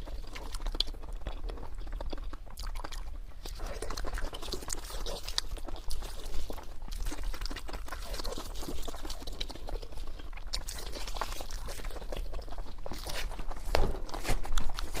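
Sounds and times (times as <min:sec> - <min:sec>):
crunching fried pork: 0:00.0 - 0:15.0
wet chewing: 0:00.0 - 0:15.0.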